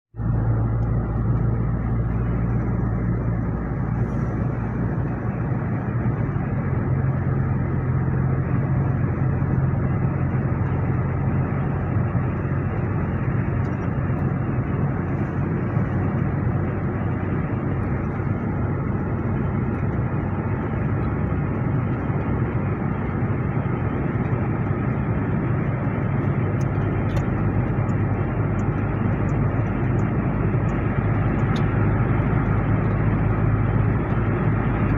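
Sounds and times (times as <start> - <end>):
engine drone: 0.1 - 34.9
tyre and road noise: 0.2 - 34.9.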